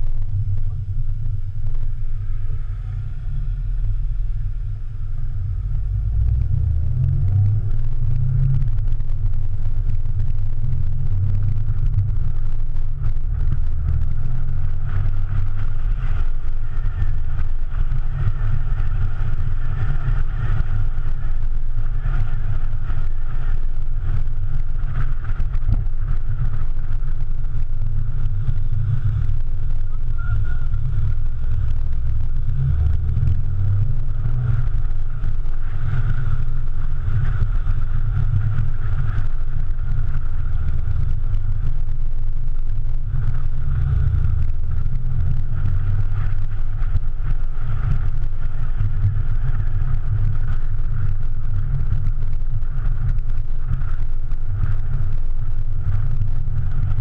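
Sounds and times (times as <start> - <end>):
car exhaust low rumble: 0.0 - 57.0.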